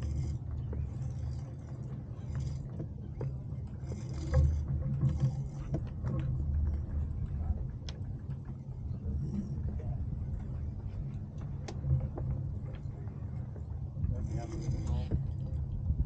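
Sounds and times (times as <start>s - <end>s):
boat fittings knocking: 0.0s - 14.5s
water washing along hull: 0.0s - 16.0s
wind rumble on microphone: 0.0s - 16.0s.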